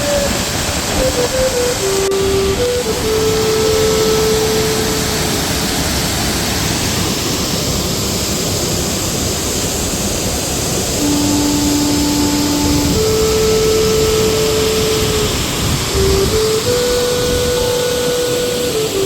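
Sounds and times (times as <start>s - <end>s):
long steady tones: 0.0s - 19.0s
water roaring through spillway: 0.0s - 19.0s.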